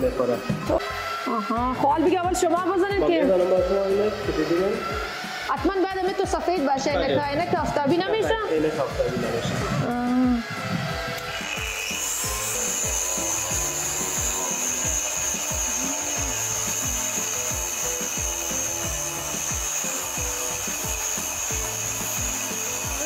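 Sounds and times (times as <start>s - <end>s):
angle grinder grinding metal: 0.0s - 23.0s
background music with beat: 0.0s - 23.0s.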